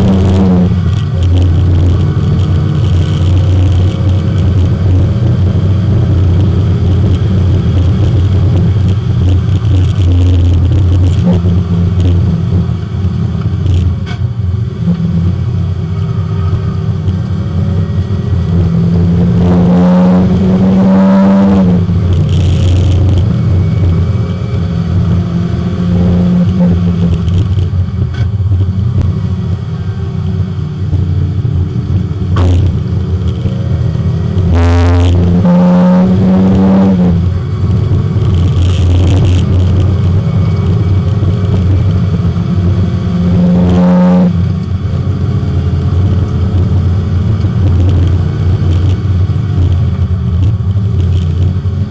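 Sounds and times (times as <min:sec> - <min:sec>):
race car engine accelerating: 0:00.0 - 0:51.9.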